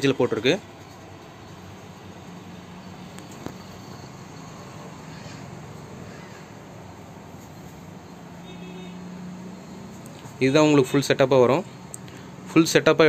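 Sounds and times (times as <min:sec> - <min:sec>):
room tone hiss: 0:00.0 - 0:13.0.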